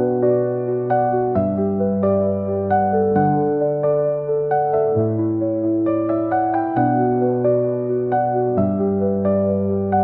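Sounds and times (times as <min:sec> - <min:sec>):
soft piano notes: 0:00.0 - 0:10.0.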